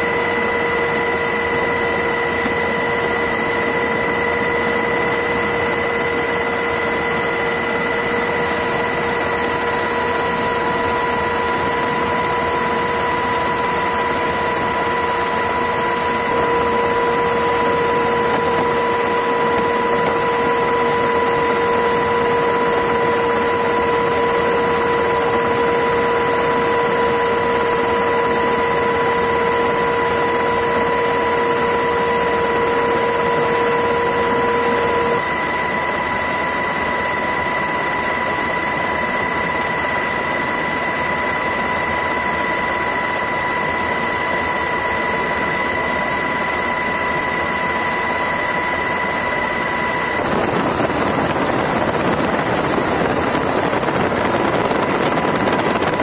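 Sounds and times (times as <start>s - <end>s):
engine with high whine: 0.0s - 56.0s.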